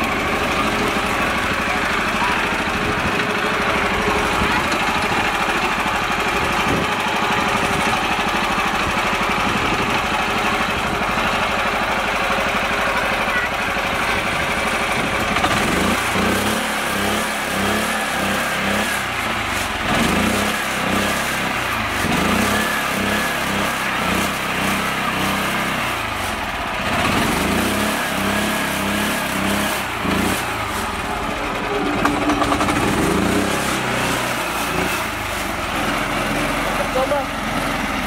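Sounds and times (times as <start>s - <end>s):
tractor engine revving: 0.0s - 38.0s.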